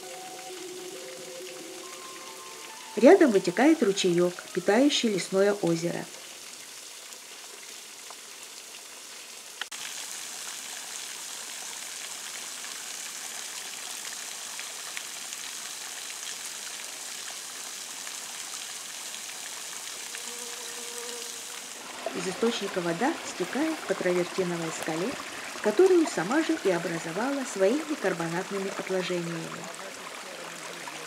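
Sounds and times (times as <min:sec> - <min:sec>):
brook trickling: 0:00.0 - 0:31.0.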